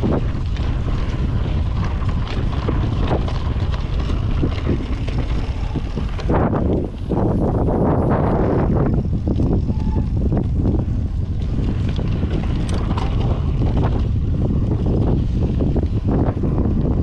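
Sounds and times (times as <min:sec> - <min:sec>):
bike clattering rattles: 0:00.0 - 0:17.0
bike tyre rumble: 0:00.0 - 0:17.0
wind buffeting the microphone: 0:00.0 - 0:17.0.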